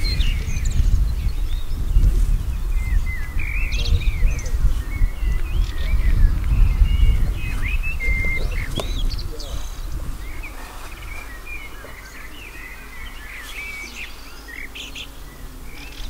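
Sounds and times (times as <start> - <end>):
loud uneven low rumble: 0.0 - 14.3
small birds chirping: 0.0 - 16.0.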